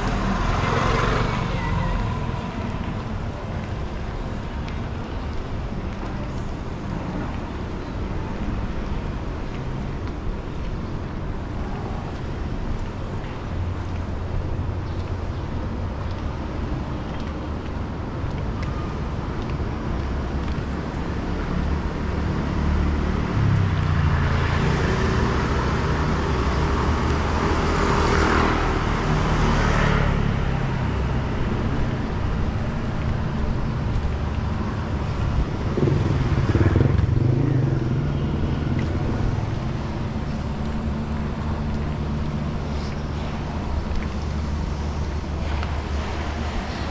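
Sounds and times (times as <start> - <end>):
street traffic rumble: 0.0 - 46.9.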